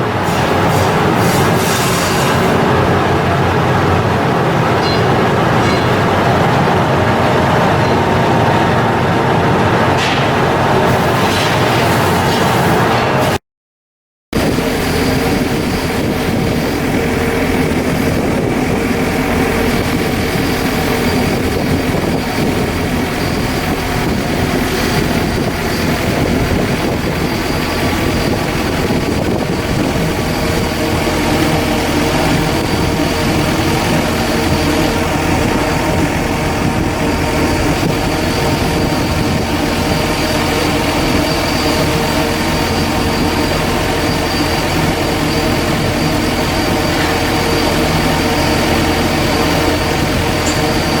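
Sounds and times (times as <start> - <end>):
large engine drone: 0.0 - 13.4, 14.4 - 51.0.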